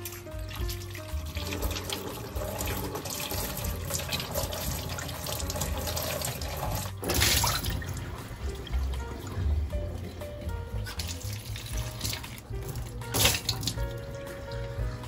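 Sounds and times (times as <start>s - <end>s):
tap water running onto plate: 0.0s - 15.0s
water splashing into sink: 0.0s - 15.0s.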